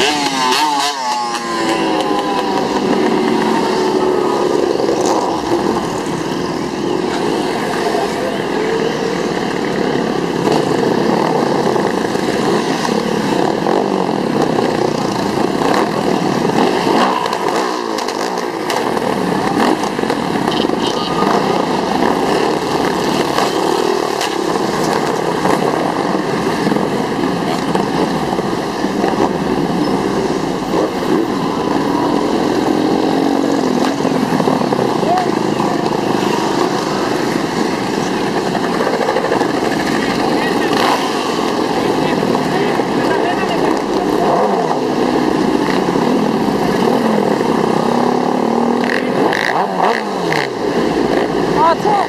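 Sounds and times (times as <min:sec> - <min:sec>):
many motorcycle engines revving: 0:00.0 - 0:52.0.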